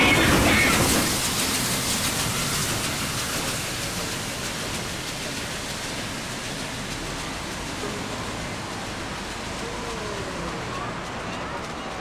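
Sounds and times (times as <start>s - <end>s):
steam train hiss: 0.0s - 12.0s.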